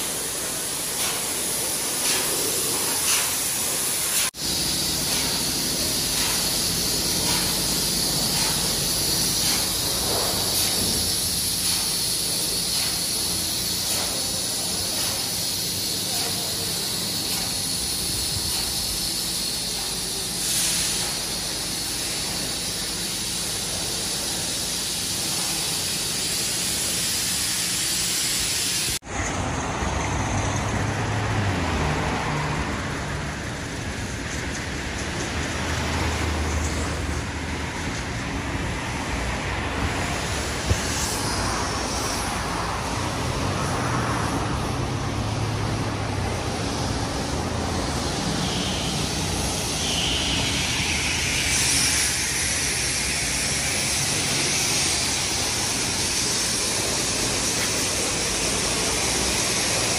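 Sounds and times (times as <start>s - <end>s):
passing road traffic: 0.0s - 25.6s, 29.0s - 59.9s
pressure washer spraying: 0.0s - 29.0s, 31.2s - 37.9s, 38.8s - 59.9s.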